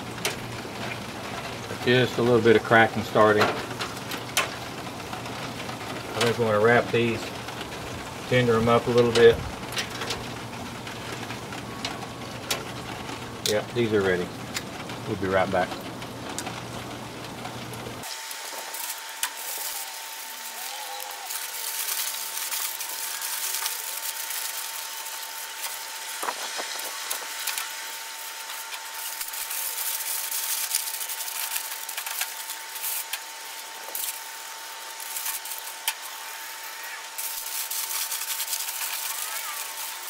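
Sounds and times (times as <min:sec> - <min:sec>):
aluminium foil crinkling: 0:00.0 - 0:40.0.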